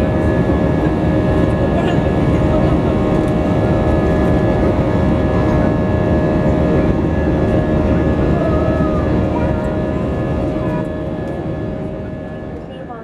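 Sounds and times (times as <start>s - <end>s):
jet engine and airflow roar: 0.0s - 13.0s
steady engine whine: 0.0s - 13.0s.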